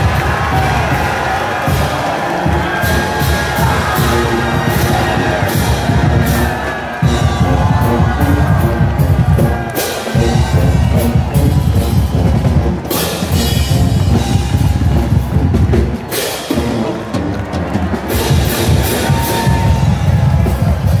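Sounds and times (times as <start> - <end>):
band playing brass and drums: 0.0 - 21.0.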